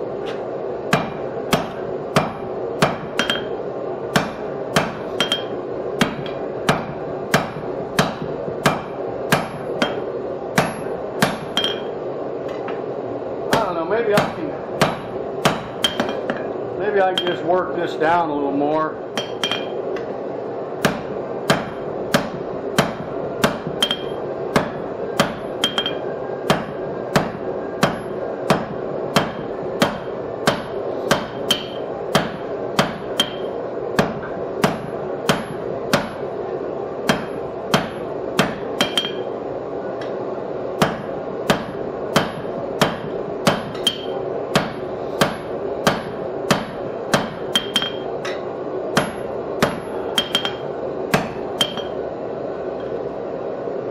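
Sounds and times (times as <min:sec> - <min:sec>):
steady hum: 0:00.0 - 0:53.9
hammer striking steel on anvil: 0:00.3 - 0:11.9, 0:13.5 - 0:16.5, 0:17.1 - 0:17.5, 0:19.1 - 0:19.8, 0:20.8 - 0:36.2, 0:37.1 - 0:39.3, 0:40.8 - 0:48.4, 0:49.0 - 0:52.0.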